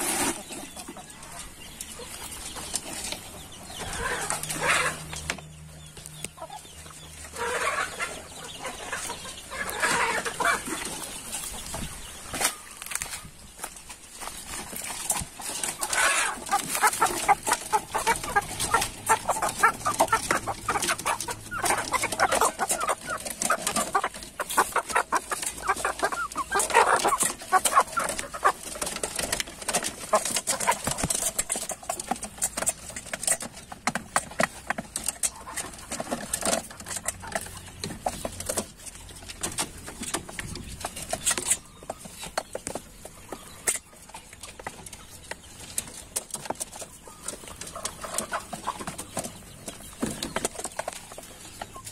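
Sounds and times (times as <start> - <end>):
chickens clucking and squawking: 0.0 - 51.9.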